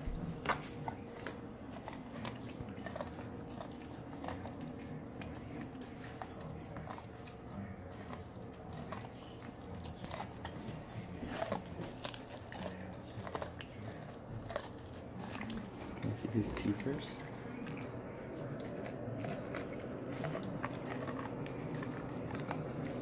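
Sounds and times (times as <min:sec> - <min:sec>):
dog chewing corn on the cob: 0:00.0 - 0:23.0
teeth clicking on cob: 0:00.4 - 0:17.0, 0:17.6 - 0:23.0.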